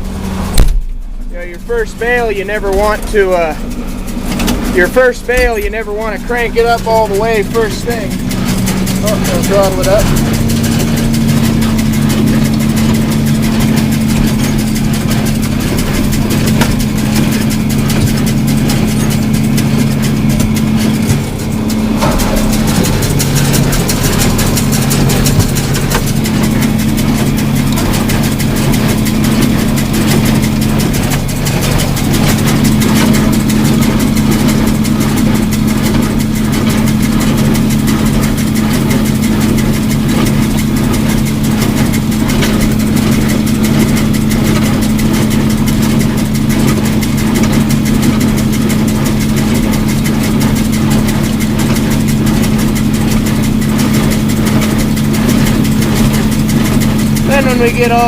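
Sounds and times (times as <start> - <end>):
baler mechanism ticking rapidly: 0.0 - 58.0
tractor diesel engine running: 0.0 - 58.0.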